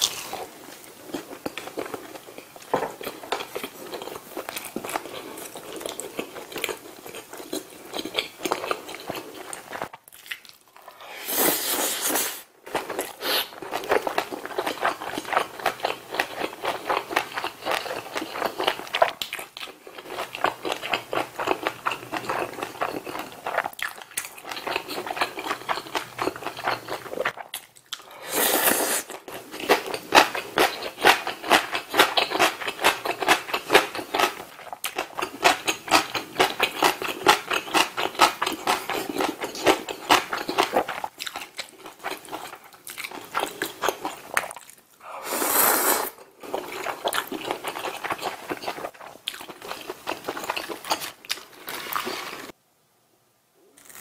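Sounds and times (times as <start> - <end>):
person chewing food: 0.0 - 52.6.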